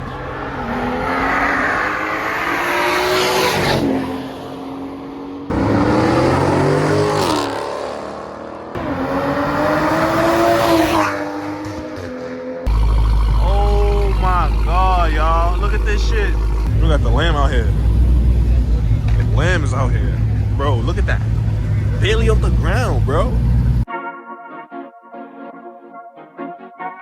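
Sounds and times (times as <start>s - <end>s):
car engines accelerating hard: 0.0s - 23.9s.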